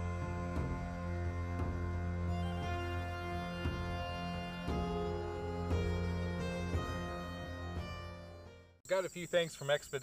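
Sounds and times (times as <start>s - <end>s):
sustained keyboard notes: 0.0s - 8.8s.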